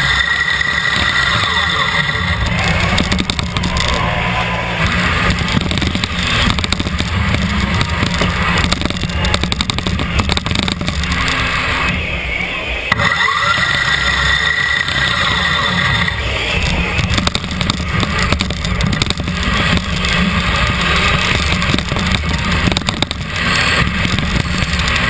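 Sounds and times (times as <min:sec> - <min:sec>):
electric motors rattling: 0:00.0 - 0:12.0, 0:12.9 - 0:25.0
high whine: 0:00.0 - 0:25.0.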